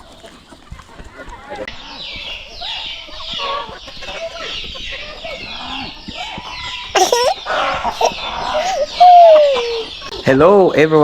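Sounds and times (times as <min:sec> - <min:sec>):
chicks peeping: 0:00.0 - 0:11.0
hens clucking: 0:00.0 - 0:11.0.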